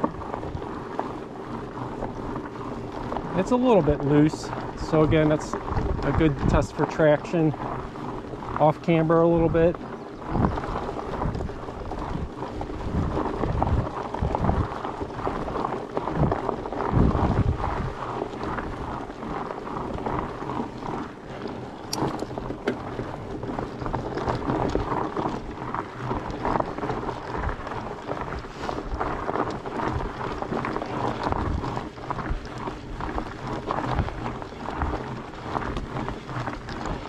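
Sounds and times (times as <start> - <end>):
bike tyres crunching on gravel: 0.0 - 37.0
wind buffeting microphone: 0.0 - 37.0.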